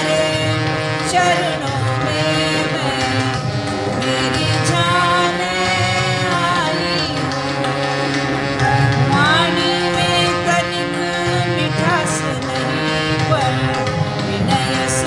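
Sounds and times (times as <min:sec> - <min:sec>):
woman singing: 0:00.0 - 0:07.8, 0:09.0 - 0:15.0
long held accompanying notes: 0:00.0 - 0:15.0
tabla: 0:00.0 - 0:15.0.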